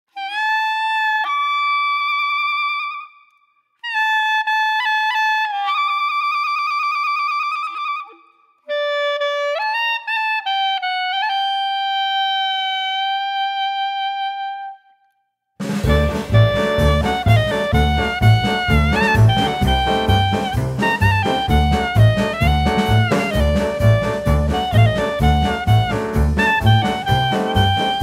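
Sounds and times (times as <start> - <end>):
solo wind instrument melody: 0.1 - 3.2, 3.8 - 15.2, 15.8 - 28.0.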